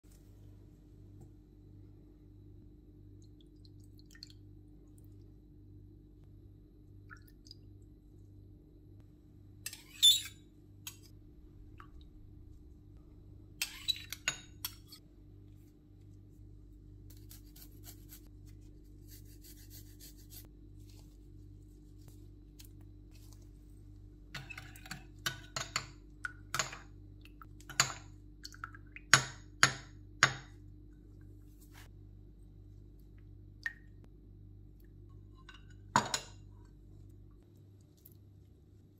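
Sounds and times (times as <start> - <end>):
steady low hum: 0.1 - 9.7, 10.4 - 38.9.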